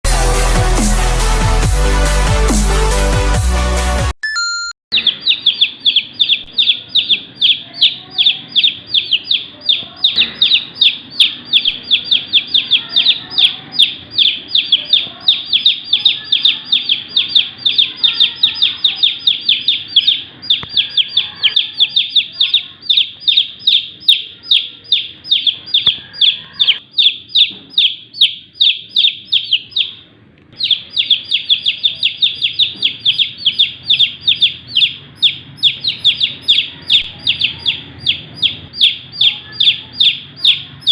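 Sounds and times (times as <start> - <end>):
baby chicks peeping: 4.9 - 40.9.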